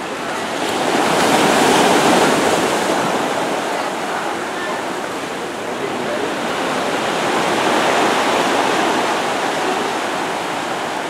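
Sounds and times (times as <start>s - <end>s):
ocean surf washing over rocks: 0.0s - 11.0s.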